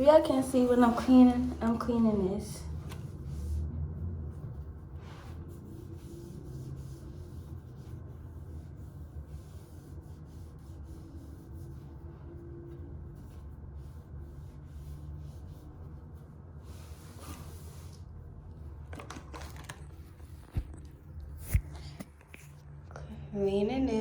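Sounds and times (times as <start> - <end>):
cleaning wipe rubbing laptop: 0.0 - 22.6.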